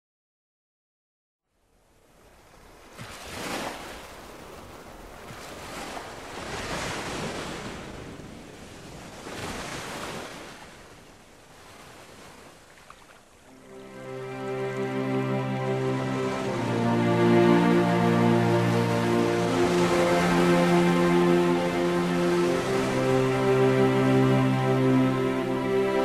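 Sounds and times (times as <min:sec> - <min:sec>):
waves washing in: 0:02.0 - 0:26.0.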